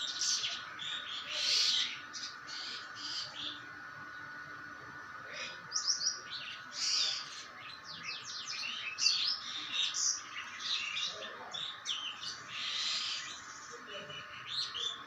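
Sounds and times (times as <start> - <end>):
myna bird chattering calls: 0.0 - 3.6, 5.3 - 15.0
steady background hum: 0.0 - 15.0.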